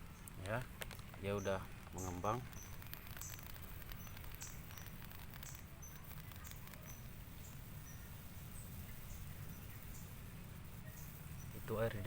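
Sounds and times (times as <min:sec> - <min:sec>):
fizzing and crackling heater: 0:00.0 - 0:12.0.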